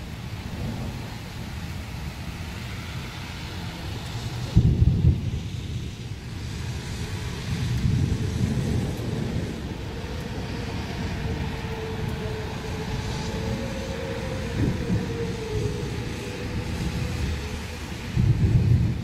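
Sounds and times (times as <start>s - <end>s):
rolling thunder: 0.3s - 1.8s, 3.2s - 19.0s.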